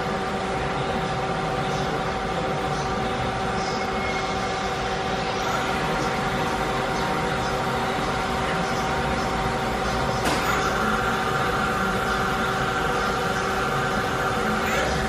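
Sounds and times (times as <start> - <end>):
lathe machine hum: 0.0 - 15.0.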